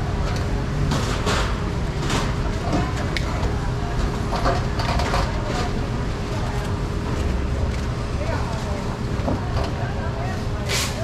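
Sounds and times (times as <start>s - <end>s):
faint voices: 2.0s - 11.0s.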